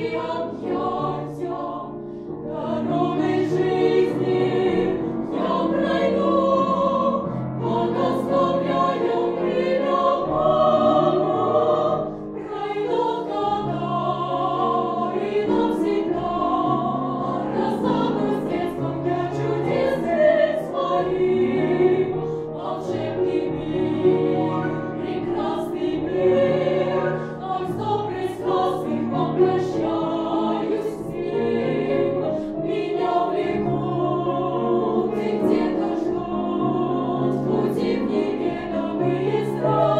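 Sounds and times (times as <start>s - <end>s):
girls choir singing in parts: 0.0s - 39.9s
piano accompaniment: 0.0s - 39.9s.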